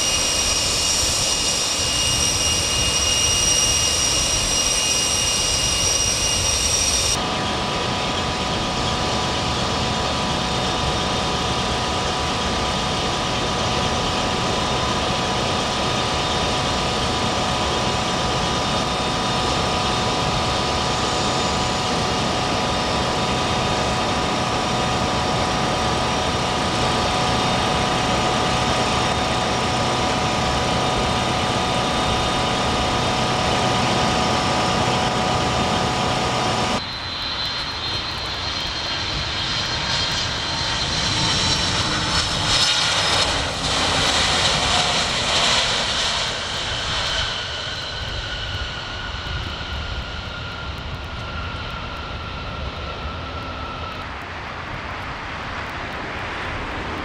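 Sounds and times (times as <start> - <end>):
jet airliner on runway: 0.0 - 57.0
jet engines whining: 0.0 - 57.0.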